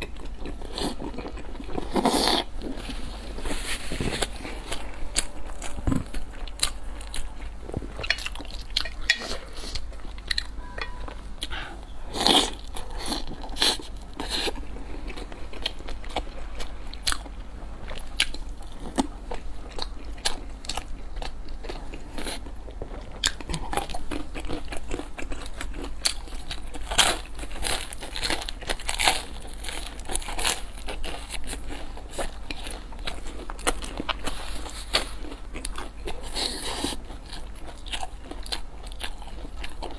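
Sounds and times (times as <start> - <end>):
person eating crunchy food: 0.0 - 39.9.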